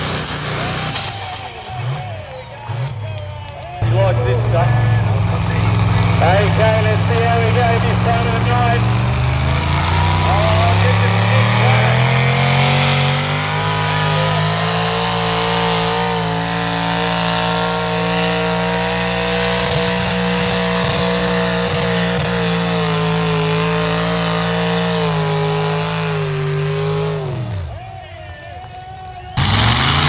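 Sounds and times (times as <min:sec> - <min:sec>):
tractor engine running hard: 0:00.0 - 0:28.0, 0:28.7 - 0:30.0.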